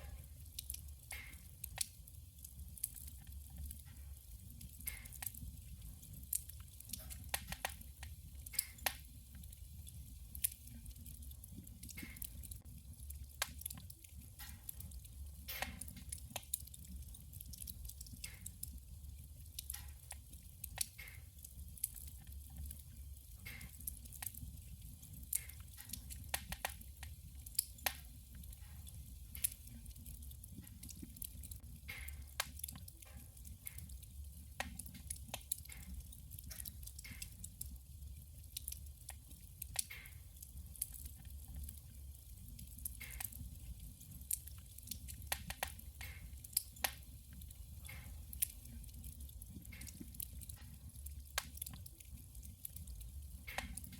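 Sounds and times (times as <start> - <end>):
firewood crackling and popping: 0.0 - 53.9
low rumble of fire: 0.0 - 53.9.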